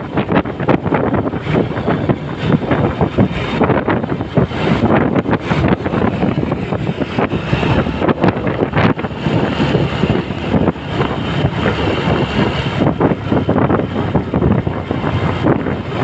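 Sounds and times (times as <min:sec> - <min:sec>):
car rumble: 0:00.0 - 0:16.0
motorbike traffic: 0:00.0 - 0:16.0
wind buffeting microphone: 0:00.0 - 0:16.0.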